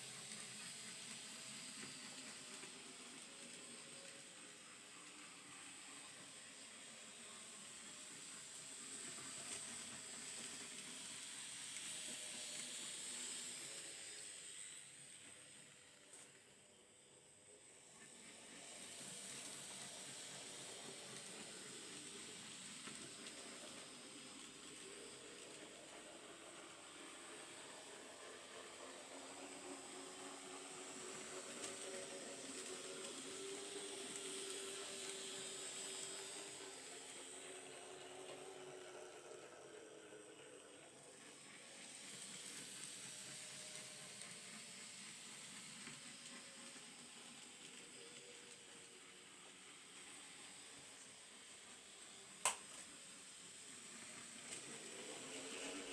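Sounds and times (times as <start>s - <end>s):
hiss: 0.0s - 55.9s
model train whirring on track: 0.0s - 55.9s.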